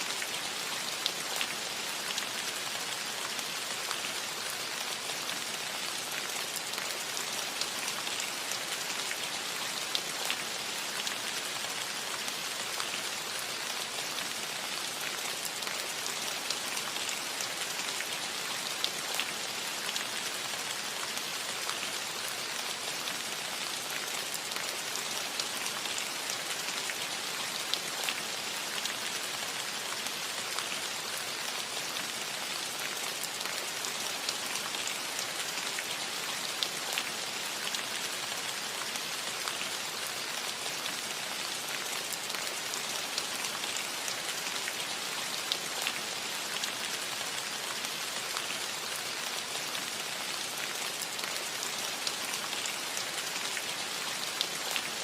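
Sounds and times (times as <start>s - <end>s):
rain on a roof: 0.0s - 55.0s.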